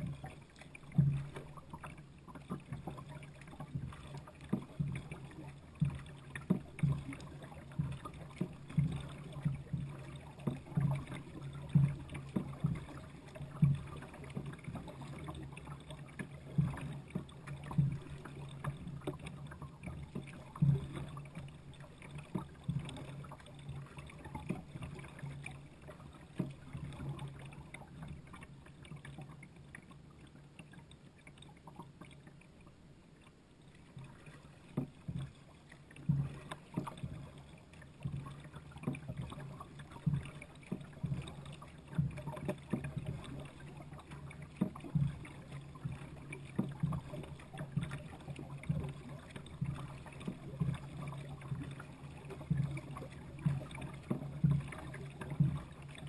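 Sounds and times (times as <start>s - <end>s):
kayak paddle splashing: 0.0s - 56.0s.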